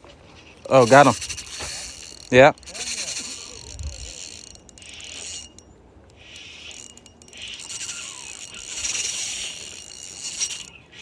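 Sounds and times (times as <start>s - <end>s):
fishing reel clicking and whirring: 0.6s - 10.8s.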